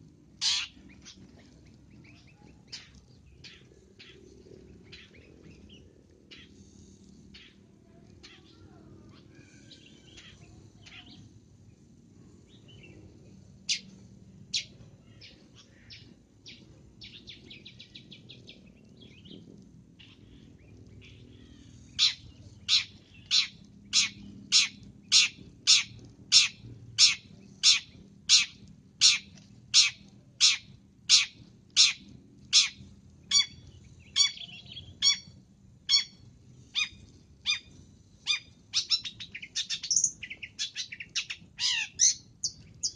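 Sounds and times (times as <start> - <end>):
shrike harsh calls and chatter: 0.3 - 42.9.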